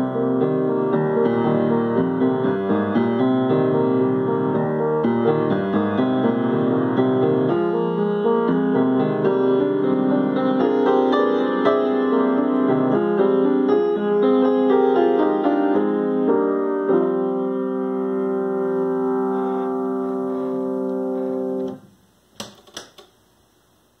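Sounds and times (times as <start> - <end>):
grand piano playing: 0.0 - 21.9.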